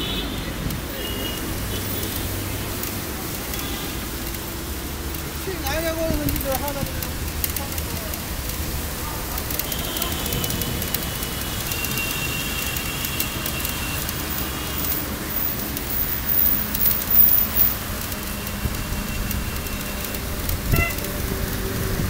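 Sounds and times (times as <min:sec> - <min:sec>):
bicycle tyres through water: 0:00.0 - 0:22.0.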